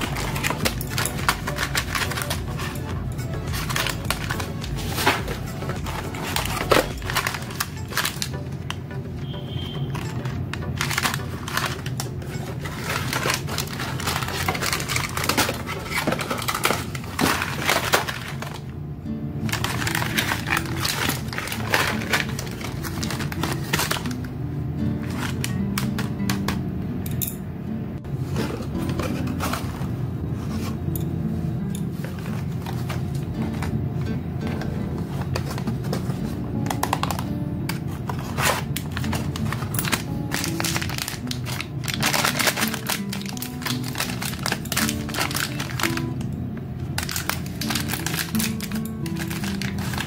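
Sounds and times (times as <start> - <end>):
wrappers crinkling and rustling: 0.0 - 8.8, 9.5 - 18.7, 19.4 - 24.3, 25.0 - 26.6, 28.1 - 30.8, 31.8 - 33.8, 34.5 - 50.0
background music: 0.0 - 50.0.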